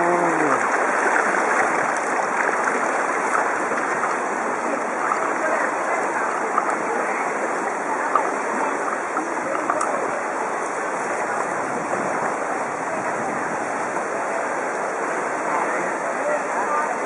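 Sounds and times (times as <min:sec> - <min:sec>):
water sloshing around bicycle wheels: 0:00.0 - 0:14.3.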